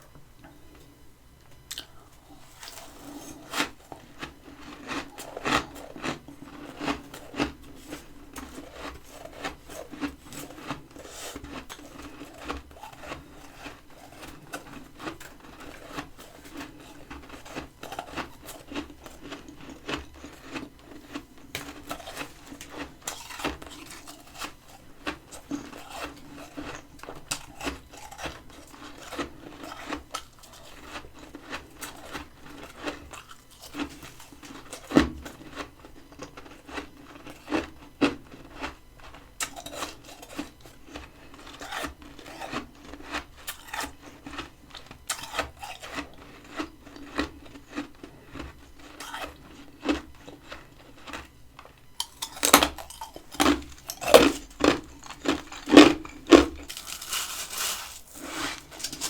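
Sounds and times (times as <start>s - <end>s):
chewing crunchy frost: 1.6s - 59.0s.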